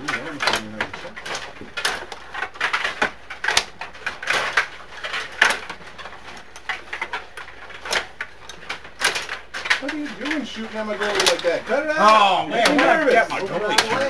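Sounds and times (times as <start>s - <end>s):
puck striking players and boards: 0.0s - 14.0s
table hockey rods clacking: 0.0s - 14.0s.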